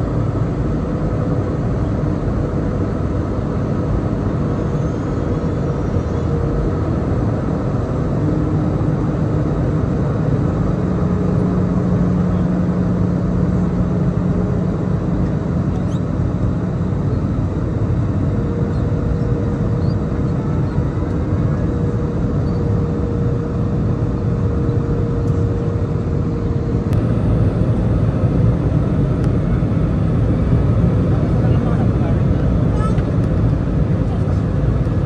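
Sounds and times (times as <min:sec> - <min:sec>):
jet engine rumble in cabin: 0:00.0 - 0:35.0
faint steady whine: 0:01.8 - 0:35.0.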